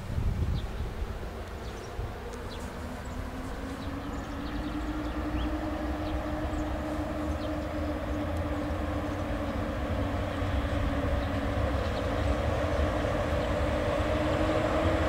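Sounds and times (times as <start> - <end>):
electric locomotive hum: 0.0 - 15.0
low rumble: 0.0 - 15.0.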